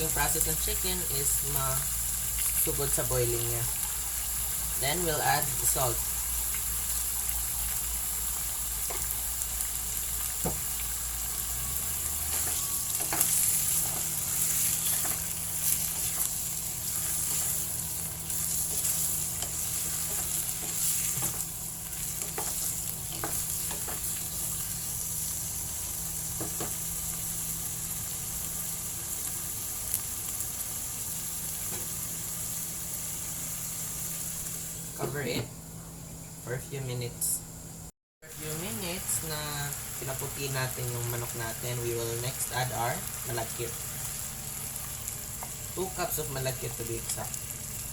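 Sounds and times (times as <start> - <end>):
chicken sizzling in oil: 0.0 - 34.9, 38.3 - 47.9.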